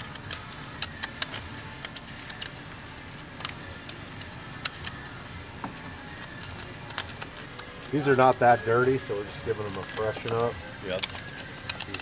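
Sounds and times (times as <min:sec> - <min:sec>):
hand tool clicking and scraping: 0:00.0 - 0:08.2, 0:08.9 - 0:12.0.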